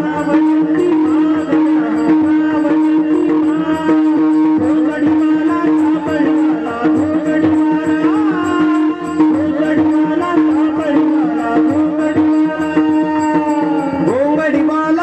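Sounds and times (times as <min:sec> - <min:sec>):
bending melody line: 0:00.0 - 0:15.0
hand drum beats: 0:00.0 - 0:15.0.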